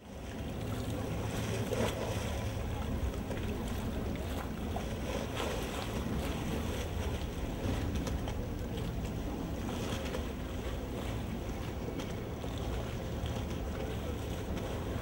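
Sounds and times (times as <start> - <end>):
water lapping against stone steps: 0.0 - 15.0.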